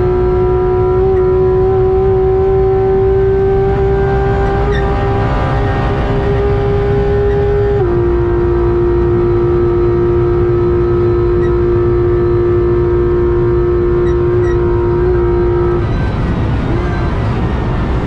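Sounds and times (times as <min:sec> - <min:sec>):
car engine at high revs: 0:00.0 - 0:18.0.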